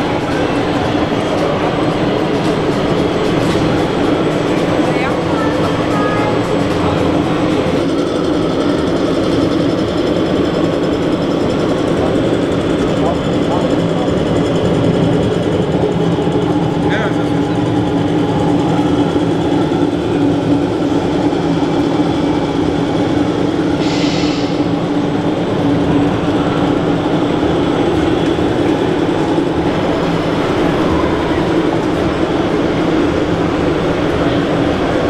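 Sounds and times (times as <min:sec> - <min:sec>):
loud mechanical rumble: 0:00.0 - 0:35.0.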